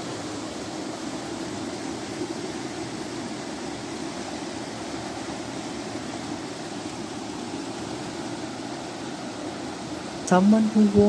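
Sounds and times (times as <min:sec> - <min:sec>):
water flowing in a brook: 0:00.0 - 0:10.9.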